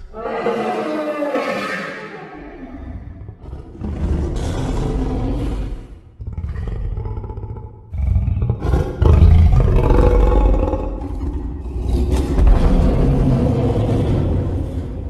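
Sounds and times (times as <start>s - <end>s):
dinosaur roars: 0.0s - 15.0s.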